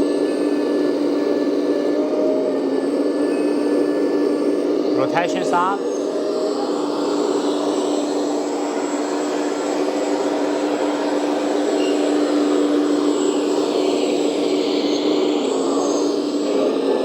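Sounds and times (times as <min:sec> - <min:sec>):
hydraulic pump whine and hum: 0:00.0 - 0:17.0.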